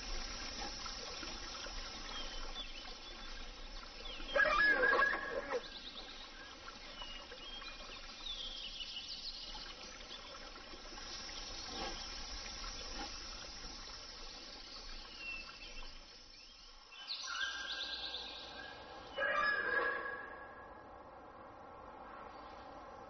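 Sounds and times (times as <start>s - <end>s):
faint forest ambience: 0.0s - 23.0s.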